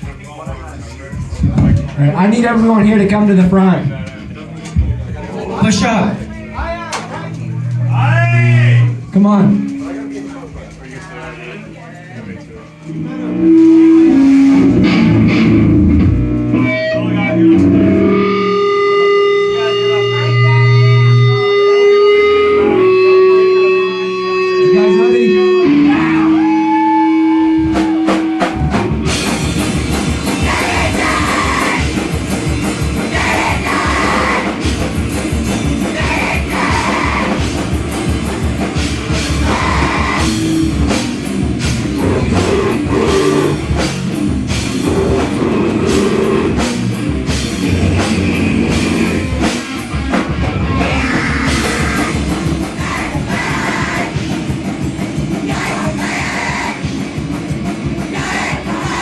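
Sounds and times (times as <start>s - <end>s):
pounding drum kit: 0.0s - 10.8s, 13.0s - 23.7s, 25.4s - 59.0s
heavy rock band playing: 0.0s - 11.7s, 12.9s - 59.0s.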